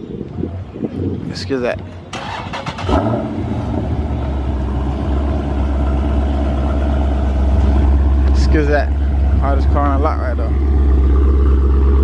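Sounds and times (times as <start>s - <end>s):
car engine starting and idling: 2.0s - 12.0s.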